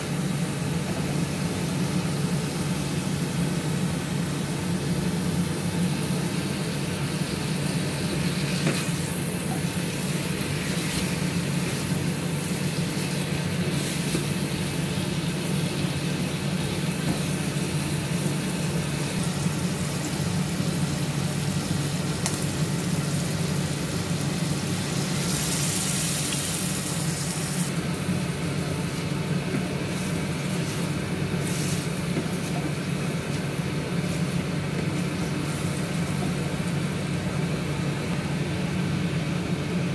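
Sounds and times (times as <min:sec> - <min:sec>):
chicken sizzling in a wok: 0:00.0 - 0:39.8
constant low hum: 0:00.0 - 0:39.9.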